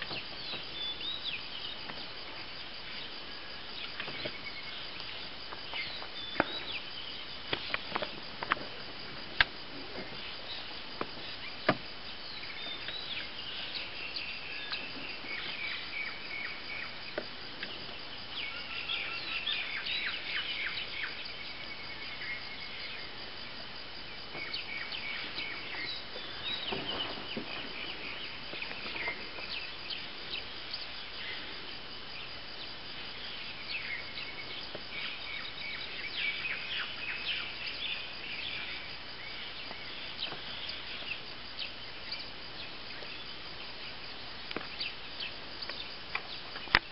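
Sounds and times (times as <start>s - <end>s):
birds chirping: 0.0s - 8.2s, 9.9s - 43.8s
insect hum: 0.0s - 46.9s.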